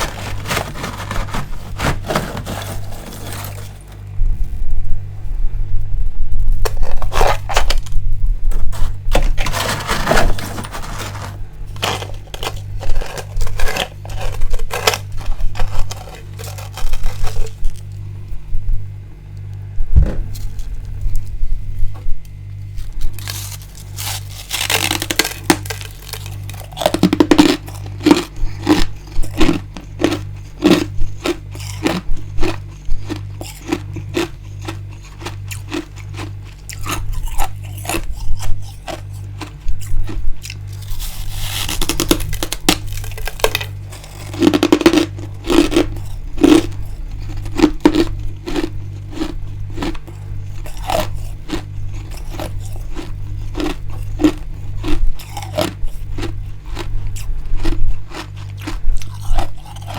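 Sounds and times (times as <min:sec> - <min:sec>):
crisp crunches: 0:00.0 - 0:04.2, 0:06.6 - 0:18.1, 0:22.6 - 0:59.9
freezer frost scraping: 0:00.0 - 0:04.2, 0:06.6 - 0:18.4, 0:20.0 - 0:59.9
steady low hum: 0:00.0 - 0:59.9.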